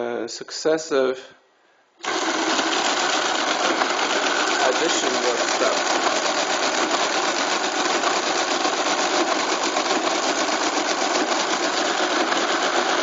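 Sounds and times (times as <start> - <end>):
mechanical calculator clatter: 2.0 - 13.0.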